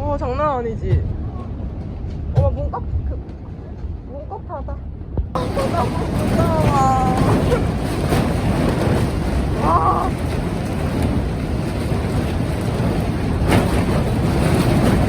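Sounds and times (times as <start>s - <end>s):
strong gale wind: 0.0s - 15.0s
wind hitting microphone: 0.0s - 15.0s.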